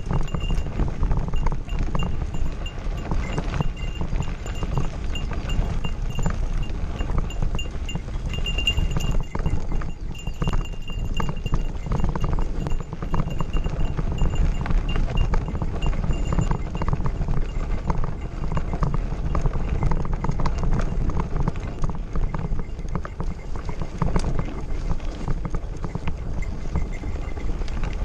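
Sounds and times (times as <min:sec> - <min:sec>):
bike rattling over gravel: 0:00.0 - 0:28.0
wind rumble on microphone: 0:00.0 - 0:28.0.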